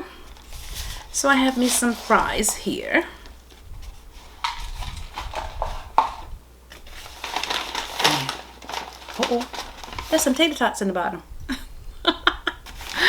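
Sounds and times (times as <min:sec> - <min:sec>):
paper bag and wrappers rustling: 0:00.0 - 0:10.8, 0:12.6 - 0:13.0.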